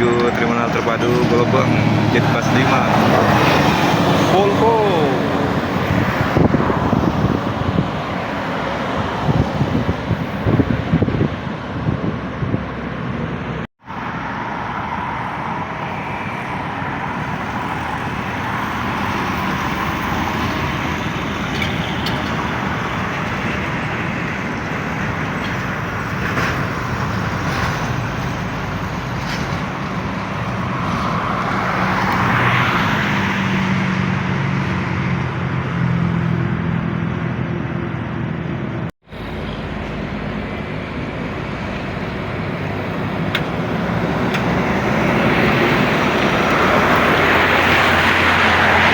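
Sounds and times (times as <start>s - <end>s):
heavy vehicle passing close: 0.0s - 48.9s
road traffic: 0.0s - 48.9s.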